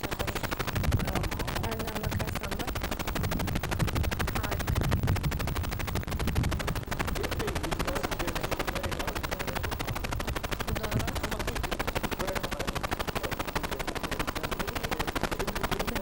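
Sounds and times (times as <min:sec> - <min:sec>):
faint voices: 0:00.0 - 0:05.2, 0:06.5 - 0:16.0
fast crackle of clicks: 0:00.0 - 0:16.0.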